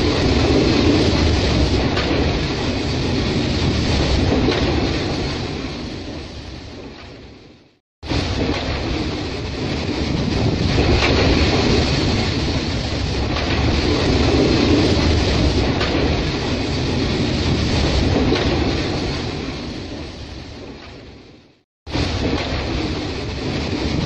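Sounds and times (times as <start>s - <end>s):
freight train wheels clattering on rails: 0.0s - 7.4s, 8.1s - 21.2s, 21.9s - 24.0s.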